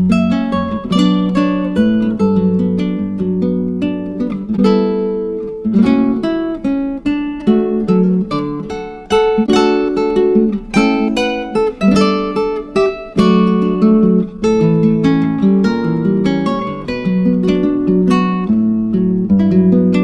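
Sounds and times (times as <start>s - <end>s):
acoustic guitar picking a melody: 0.0s - 20.0s.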